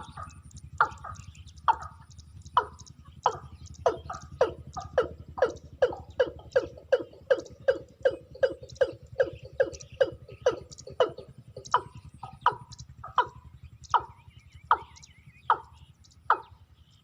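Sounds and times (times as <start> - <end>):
bird calling rhythmic notes: 0.0 - 17.0
steady low hum: 0.0 - 17.0.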